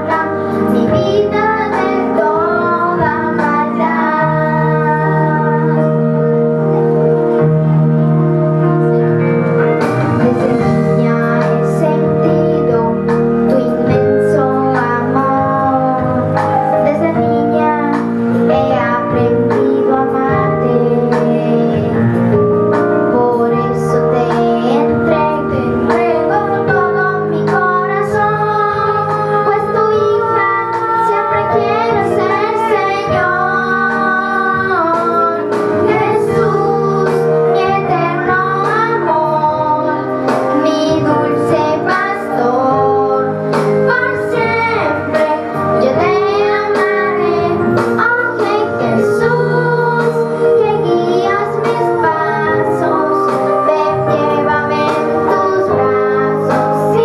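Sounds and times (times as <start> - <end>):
boy singing: 0.0 - 6.1, 10.2 - 22.0, 23.0 - 57.0
girl singing: 0.0 - 6.9, 10.2 - 22.2, 23.0 - 57.0
backing music track: 0.0 - 57.0.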